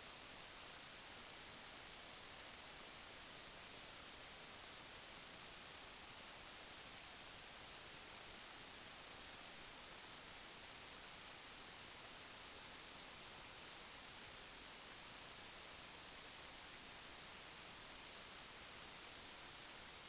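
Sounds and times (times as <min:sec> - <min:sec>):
constant hiss: 0:00.0 - 0:20.0.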